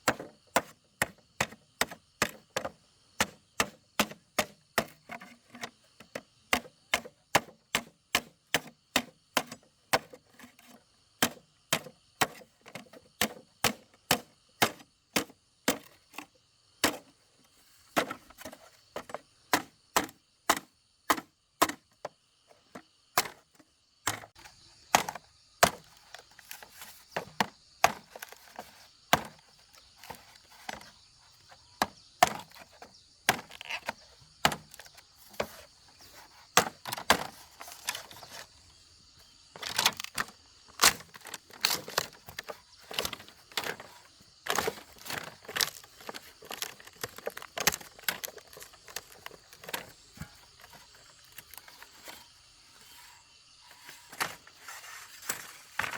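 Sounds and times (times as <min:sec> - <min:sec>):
bamboo being chopped: 0:00.0 - 0:17.1, 0:17.9 - 0:22.1, 0:22.8 - 0:30.9, 0:31.8 - 0:38.5, 0:39.6 - 0:51.6.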